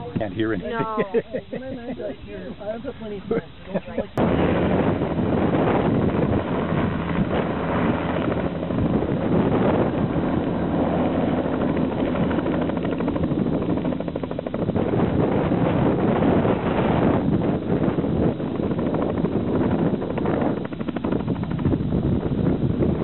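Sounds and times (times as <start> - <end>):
helicopter turbine and rotor: 0.0 - 23.0
rotor wash buffeting microphone: 0.0 - 23.0.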